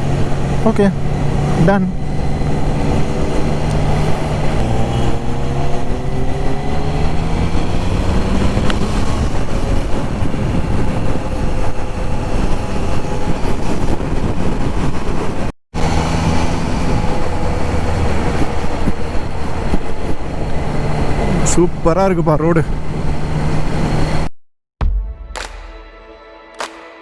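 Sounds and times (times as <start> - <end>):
motorcycle engine accelerating: 0.0 - 21.9
road noise: 0.0 - 24.3
wind noise: 0.0 - 24.3.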